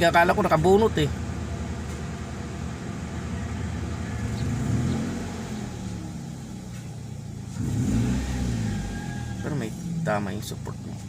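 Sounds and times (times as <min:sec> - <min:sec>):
car engine rough idle revving: 0:00.0 - 0:11.0.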